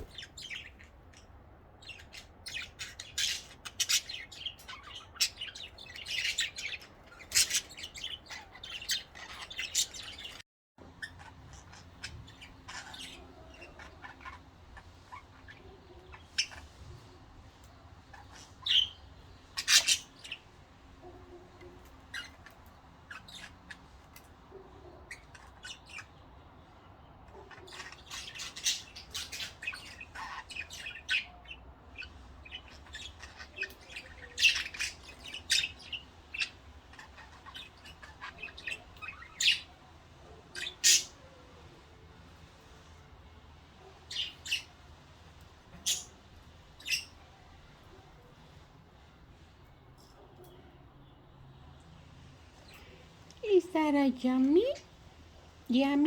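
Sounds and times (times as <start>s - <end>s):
budgerigars chirping and squawking: 0.0s - 50.6s.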